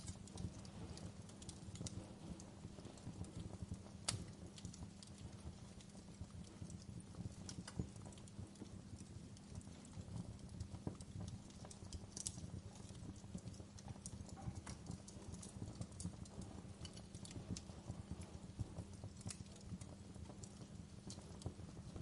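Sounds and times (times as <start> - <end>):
wood fire crackling in fireplace: 0.0 - 22.0.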